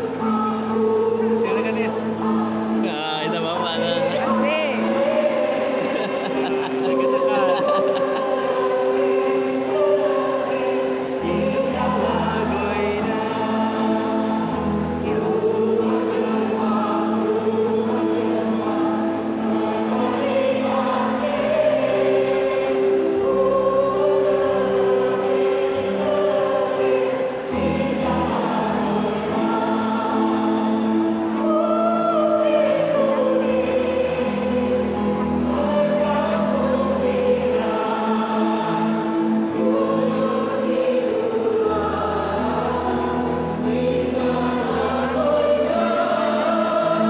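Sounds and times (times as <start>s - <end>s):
mixed choir singing: 0.0s - 47.0s.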